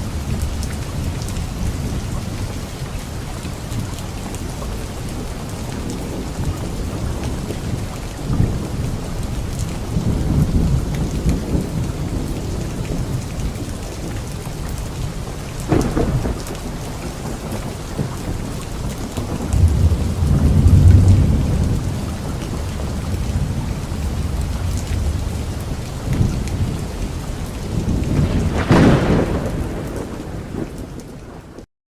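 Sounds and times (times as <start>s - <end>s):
light rain on leaves: 0.0s - 31.6s
thunder rumbling: 0.0s - 31.6s.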